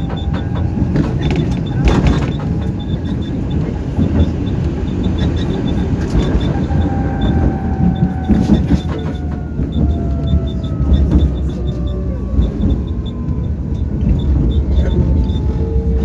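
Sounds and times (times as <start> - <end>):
tram wheels rumbling on track: 0.0 - 16.0.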